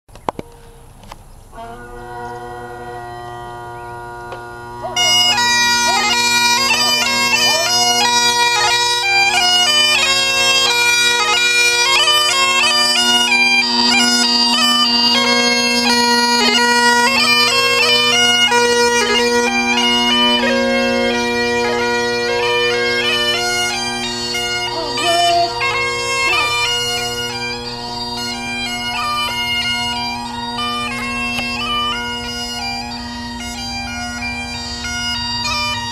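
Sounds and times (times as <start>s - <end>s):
bagpipe drones: 0.3s - 35.9s
bagpipe chanter tune: 0.4s - 35.9s.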